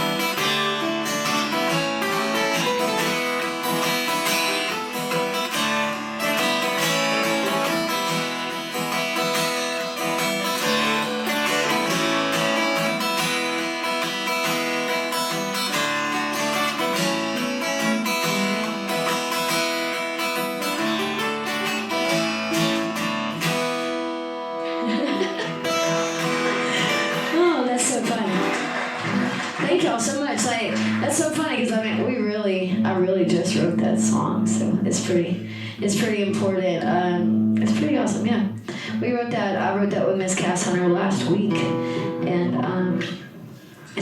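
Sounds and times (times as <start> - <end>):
acoustic guitar strumming chords: 0.0 - 39.2, 39.9 - 44.0.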